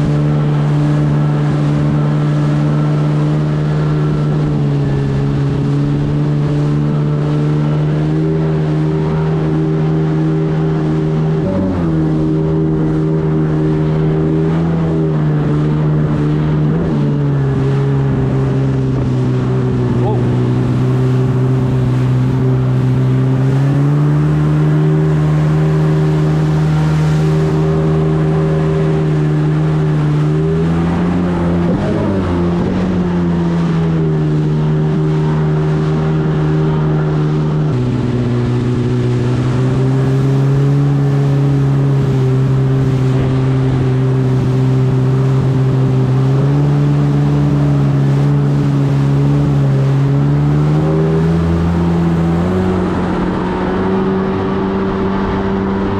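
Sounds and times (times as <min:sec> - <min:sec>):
jet ski engine running: 0:00.0 - 0:55.9.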